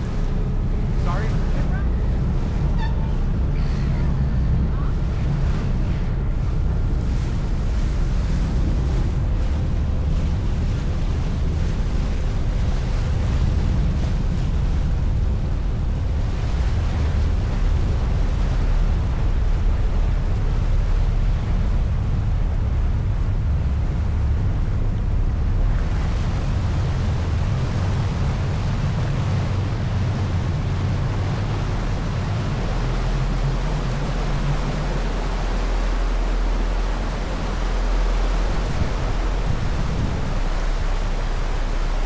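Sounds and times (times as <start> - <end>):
churning wake water: 0.0 - 42.0
ferry engine rumble: 0.0 - 42.0
wind buffeting microphone: 0.0 - 42.0.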